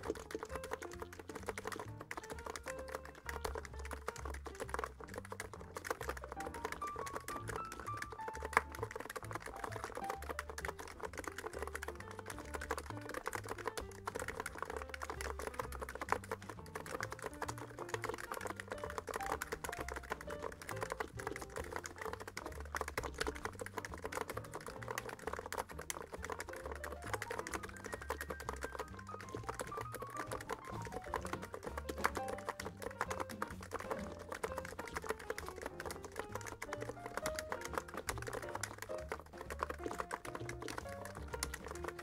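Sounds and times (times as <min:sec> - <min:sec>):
fast keyboard typing: 0:00.0 - 0:42.0
quiet stepping melody: 0:00.0 - 0:42.0.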